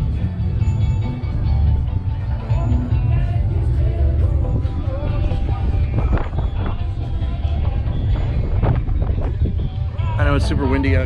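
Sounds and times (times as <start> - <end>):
background guitar music: 0.0 - 11.0
wind rumble on microphone: 0.0 - 11.0.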